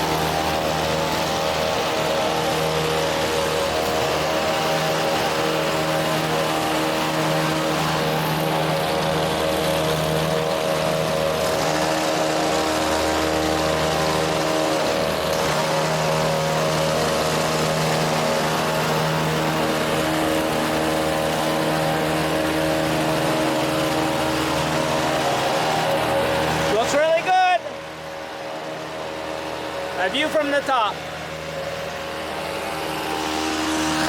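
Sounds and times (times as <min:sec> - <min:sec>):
hedge trimmer engine running: 0:00.0 - 0:34.0.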